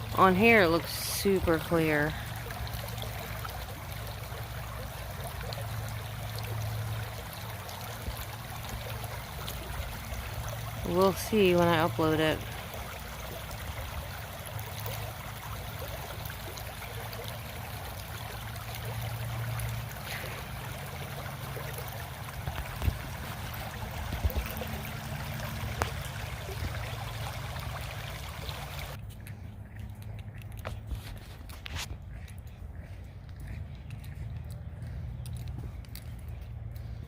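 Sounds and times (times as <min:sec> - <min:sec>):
running water: 0:00.0 - 0:37.0.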